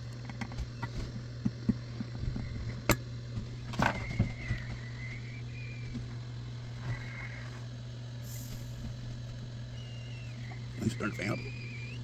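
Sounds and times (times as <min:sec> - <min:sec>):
hot-air gun humming: 0:00.0 - 0:12.0
thin wavering whine: 0:00.0 - 0:12.0.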